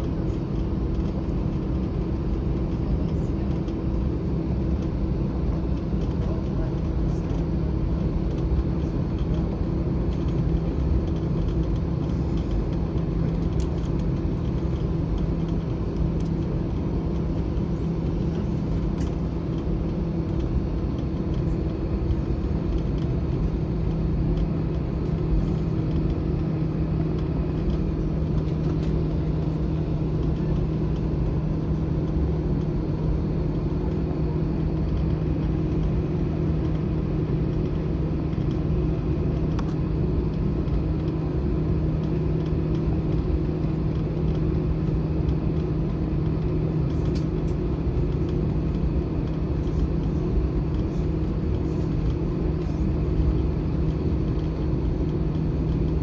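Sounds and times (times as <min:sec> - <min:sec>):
jet engines idling in cabin: 0:00.0 - 0:56.0.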